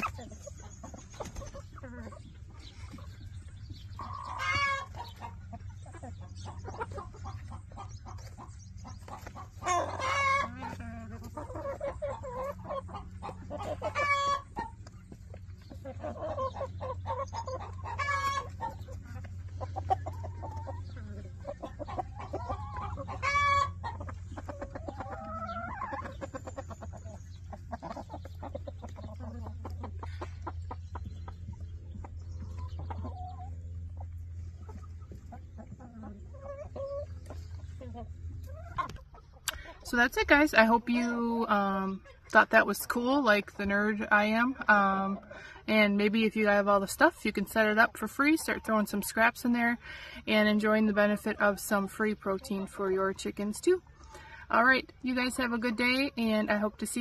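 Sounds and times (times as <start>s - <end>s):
hens clucking: 0.0s - 57.0s
steady low hum: 0.0s - 57.0s.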